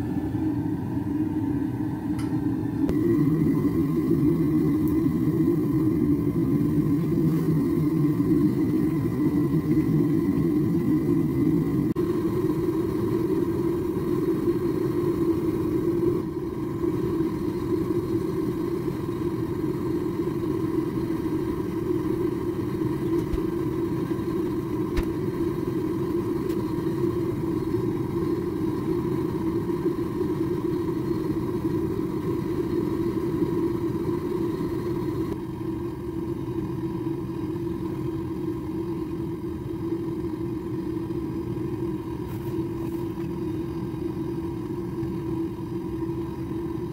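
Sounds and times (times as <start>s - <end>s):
faint steady tone: 0.0s - 46.9s
gas forge burner rumble: 0.0s - 46.9s.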